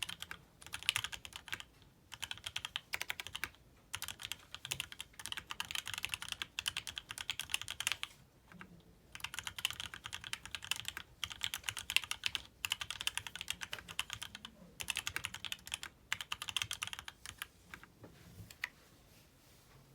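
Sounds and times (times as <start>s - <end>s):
fast typing on mechanical keyboard: 0.0s - 17.4s.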